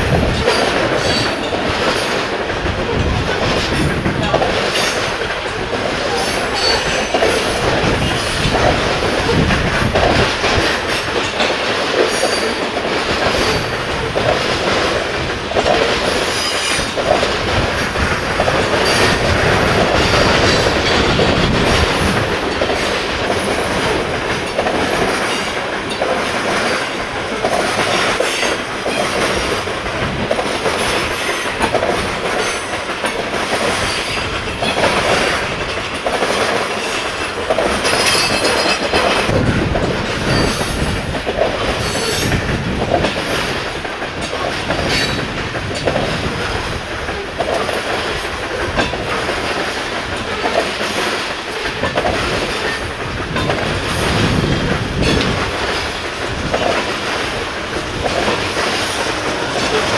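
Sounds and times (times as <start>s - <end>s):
train wheels clicking over rail joints: 0.0s - 59.9s.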